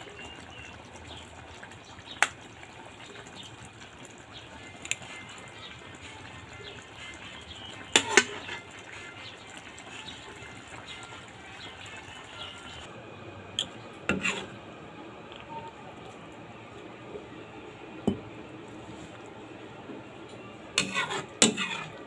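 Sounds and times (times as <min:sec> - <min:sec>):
soft wet stew sounds: 0:00.0 - 0:22.0.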